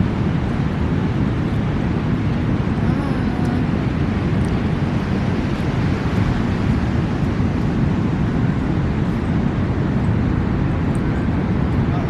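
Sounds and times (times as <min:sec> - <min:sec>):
wind blowing on microphone: 0:00.0 - 0:12.0.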